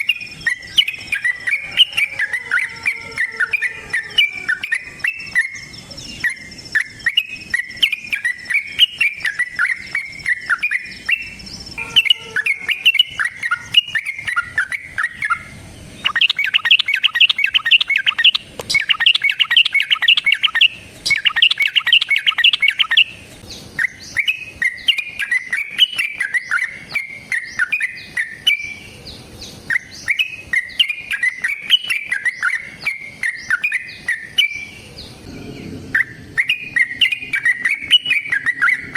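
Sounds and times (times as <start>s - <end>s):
bird singing bubbly phrases: 0.0s - 29.0s, 29.6s - 38.9s
harsh rapid bird chatter: 0.0s - 38.9s.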